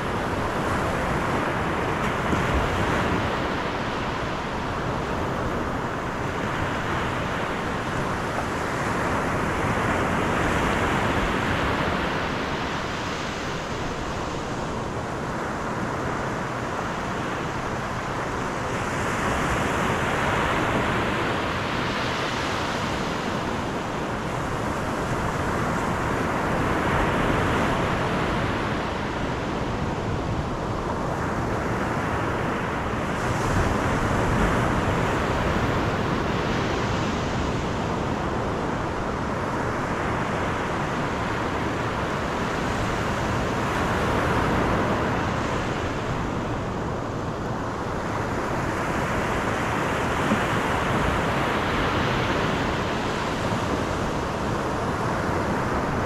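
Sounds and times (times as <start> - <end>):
car tyre and wind noise: 0.0 - 56.0.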